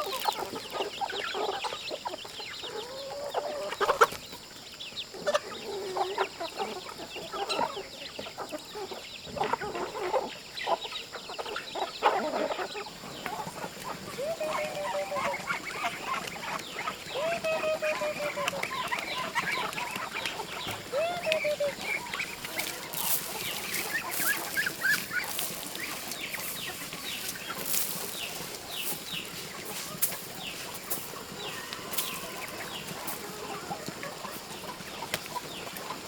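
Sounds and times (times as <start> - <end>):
chickens clucking and calling: 0.0 - 36.0.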